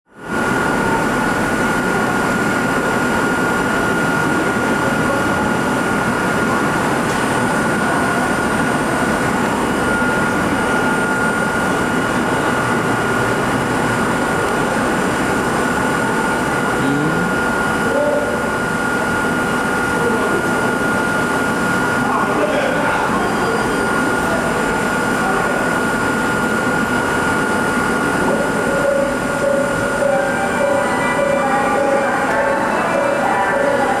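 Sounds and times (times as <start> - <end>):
high-pitched whine: 0.2 - 34.0
railcar equipment hum: 0.2 - 34.0.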